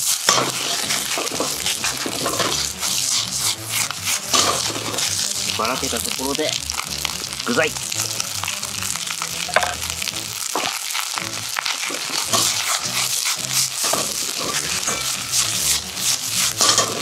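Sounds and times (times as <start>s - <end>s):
stirring strokes in pan: 0.0s - 9.2s, 9.9s - 17.0s
rice sizzling in a frying pan: 0.0s - 17.0s.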